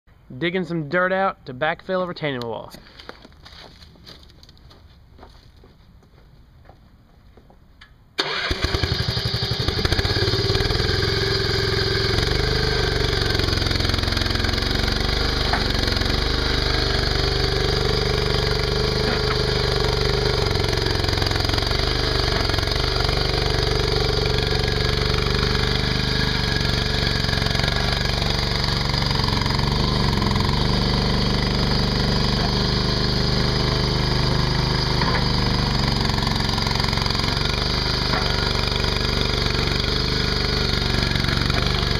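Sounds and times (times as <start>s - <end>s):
skid steer engine running: 8.2s - 41.9s.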